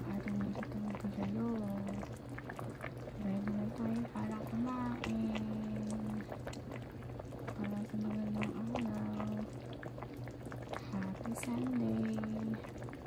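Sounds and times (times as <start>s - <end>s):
broth bubbling in a pot: 0.0s - 13.0s
low steady hum: 0.0s - 13.0s.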